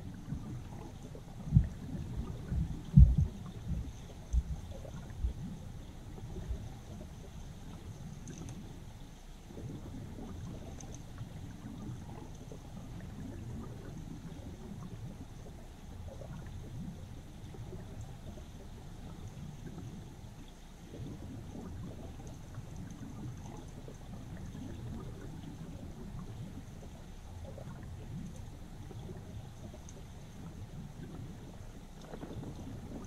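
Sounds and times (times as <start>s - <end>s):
underwater river rumble and gurgle: 0.0s - 33.0s.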